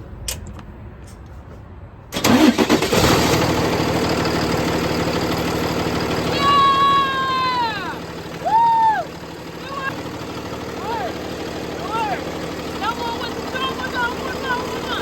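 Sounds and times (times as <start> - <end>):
diesel engine starting and idling: 2.1 - 15.0.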